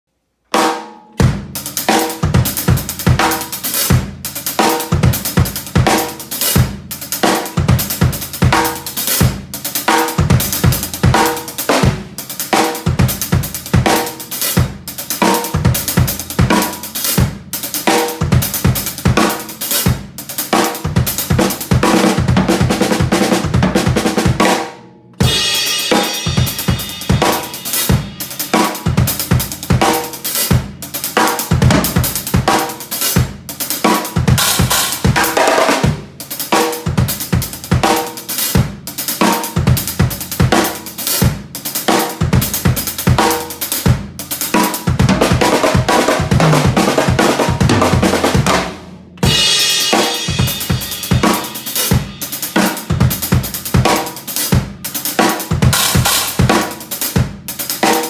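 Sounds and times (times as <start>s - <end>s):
drum kit groove: 0.5s - 58.0s.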